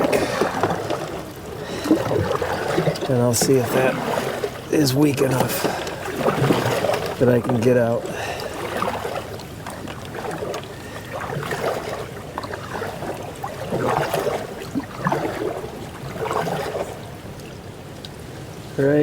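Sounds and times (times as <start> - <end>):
paddle strokes in water: 0.0 - 19.0.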